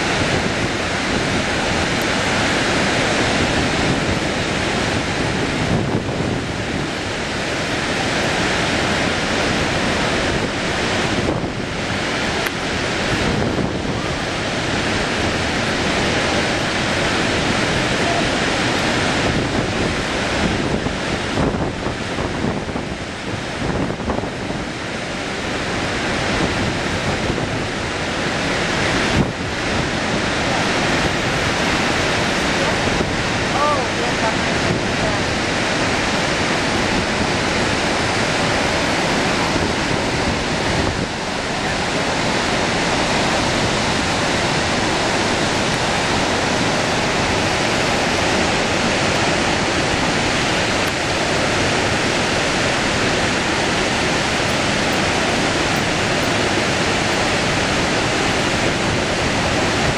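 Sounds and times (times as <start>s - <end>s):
waterfall rushing: 0.0s - 59.9s
wind buffeting microphone: 0.0s - 59.9s.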